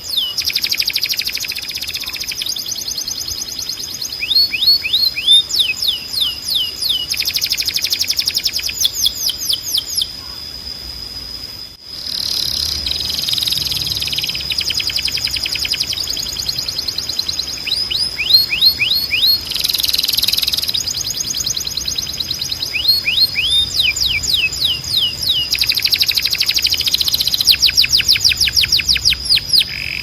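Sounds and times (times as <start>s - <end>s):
canary singing: 0.0s - 10.1s, 12.1s - 30.0s.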